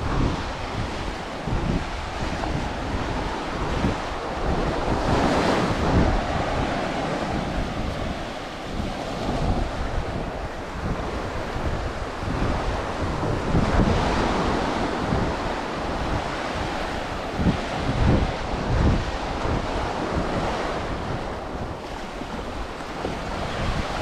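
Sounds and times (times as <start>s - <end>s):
ocean waves breaking on beach: 0.0s - 24.0s
wind rumbling on microphone: 0.0s - 24.0s.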